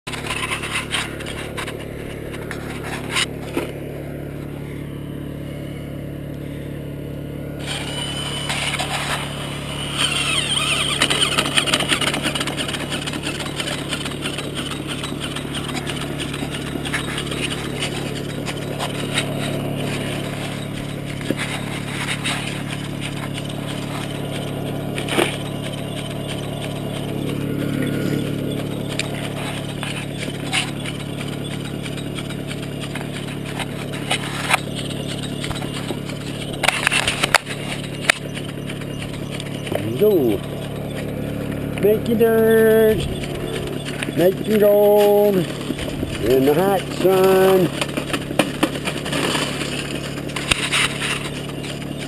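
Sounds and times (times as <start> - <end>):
dirt and rocks rattling on screen: 0.1 - 52.0
small gasoline engine running: 0.1 - 52.0.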